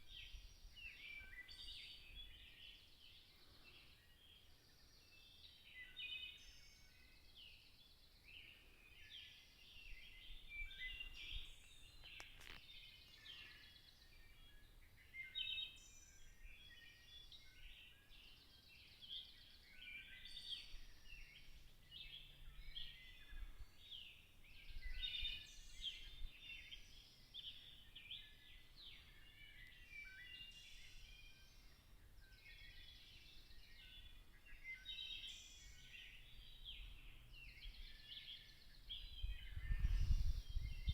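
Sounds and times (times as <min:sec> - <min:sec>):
songbirds chorus: 0:00.0 - 0:40.9.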